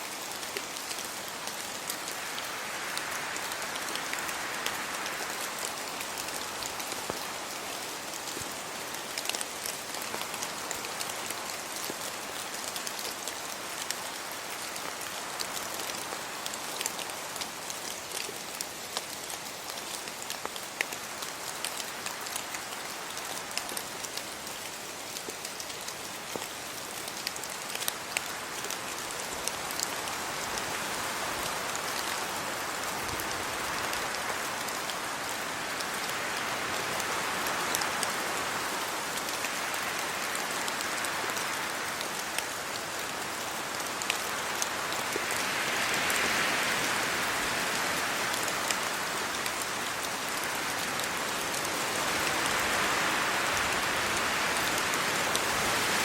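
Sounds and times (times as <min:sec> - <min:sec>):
rain falling on leaves: 0:00.0 - 0:56.0
wind gusts through trees: 0:00.0 - 0:56.0.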